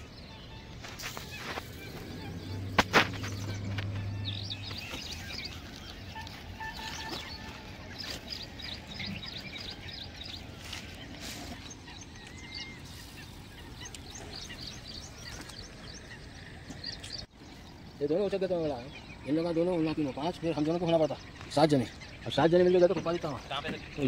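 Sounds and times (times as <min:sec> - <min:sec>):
birds chirping: 0:00.0 - 0:24.0
outdoor background noise: 0:00.0 - 0:24.0.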